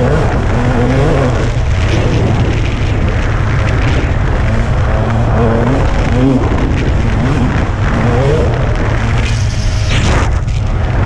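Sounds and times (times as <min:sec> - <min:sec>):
dirt bike engine revving: 0:00.0 - 0:10.5
wind rumble on microphone: 0:00.0 - 0:11.0.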